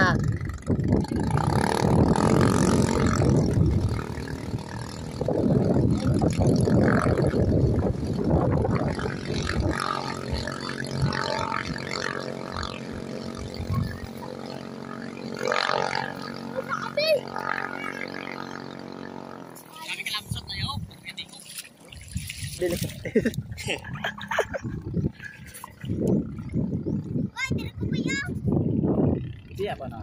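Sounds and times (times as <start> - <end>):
distant boat engines droning: 0.0 - 28.3
low buffeting: 0.0 - 30.0.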